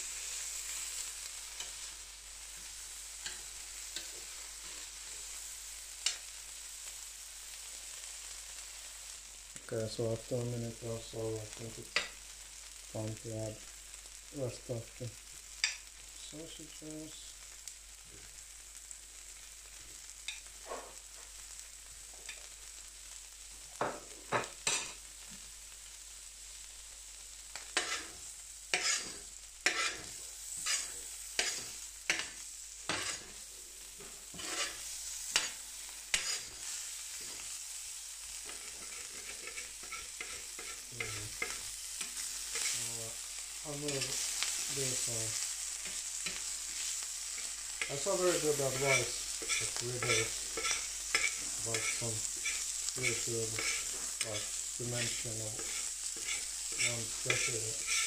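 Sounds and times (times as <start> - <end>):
sausages sizzling on a griddle: 0.0 - 58.0.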